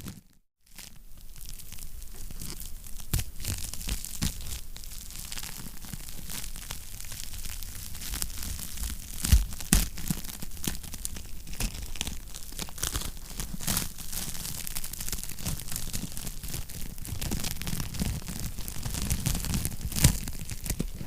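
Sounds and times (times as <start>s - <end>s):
wood fire crackling: 1.0s - 21.0s.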